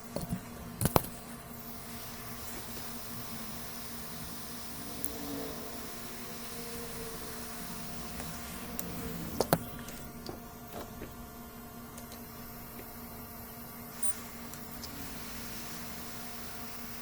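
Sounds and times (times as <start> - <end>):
equipment hiss and hum: 0.0 - 17.0.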